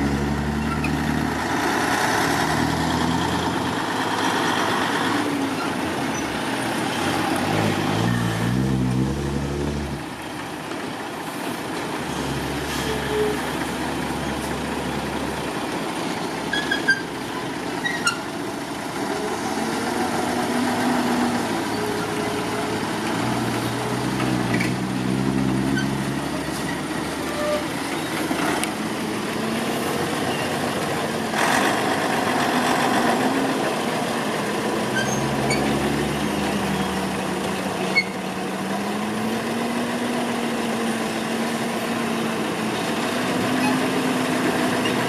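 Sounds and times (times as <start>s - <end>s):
dump truck diesel engine running: 0.0s - 45.0s.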